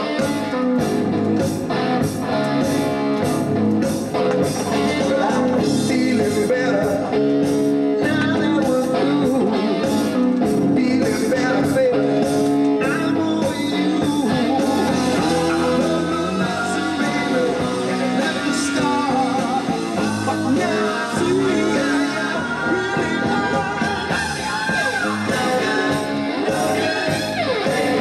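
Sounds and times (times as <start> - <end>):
rock song with singing: 0.0 - 28.0.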